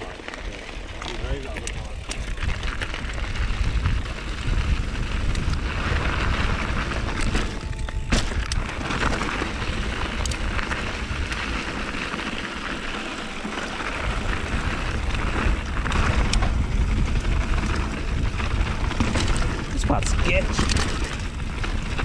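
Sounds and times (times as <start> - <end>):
bike tyres on gravel: 0.0 - 22.0
wind buffeting microphone: 0.7 - 22.0.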